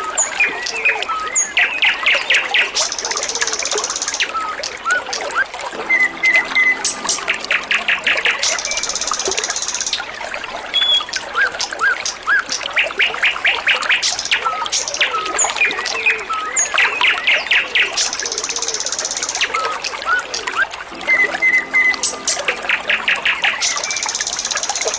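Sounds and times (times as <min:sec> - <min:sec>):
songbird singing: 0:00.0 - 0:24.9
trickling running water: 0:00.0 - 0:24.9.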